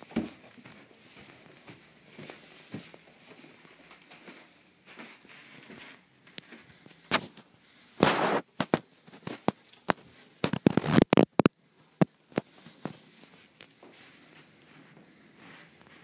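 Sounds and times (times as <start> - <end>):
footsteps on carpet: 0.0 - 10.8, 12.3 - 16.0.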